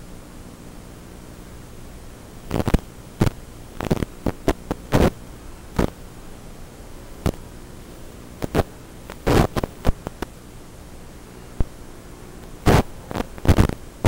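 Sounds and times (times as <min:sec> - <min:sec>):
static crackles: 0:00.0 - 0:14.0
steady electrical hum: 0:00.0 - 0:14.0.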